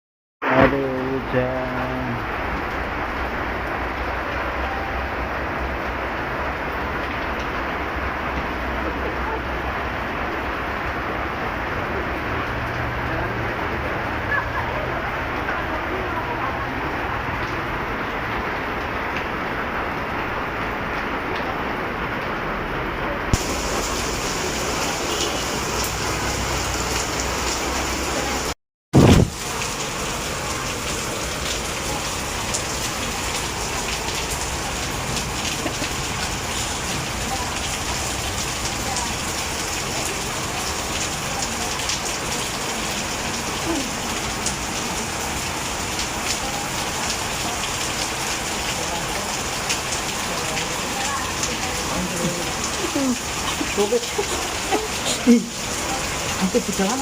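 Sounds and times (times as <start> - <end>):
heavy rain hissing: 0.4 - 57.0
raindrops ticking close by: 1.0 - 28.6, 29.2 - 57.0.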